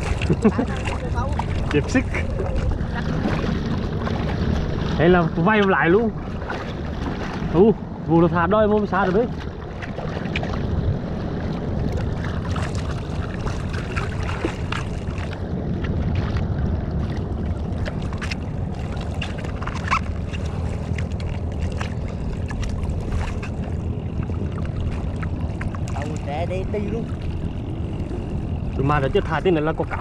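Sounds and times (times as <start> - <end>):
low rumble: 0.0 - 30.0
sea water slapping and splashing: 0.0 - 30.0.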